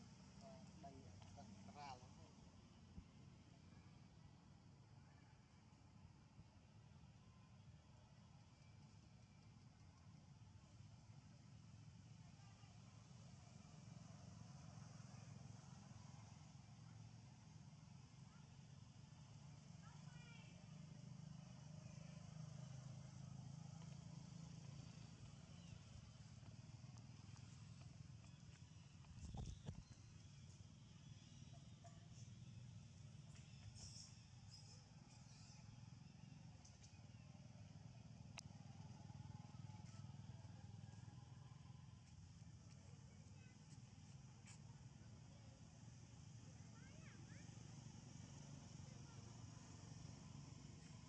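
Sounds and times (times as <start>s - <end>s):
faint low outdoor rumble: 0.0s - 51.0s
motorbike tuk-tuk engine hum: 0.0s - 51.0s.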